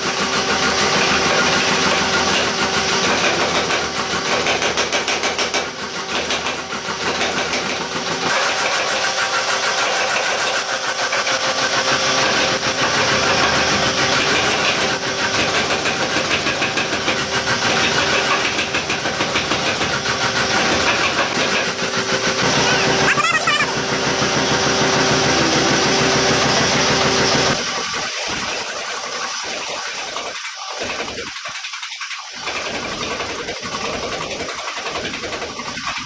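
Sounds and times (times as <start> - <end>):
machine rattling and humming: 0.0 - 36.0.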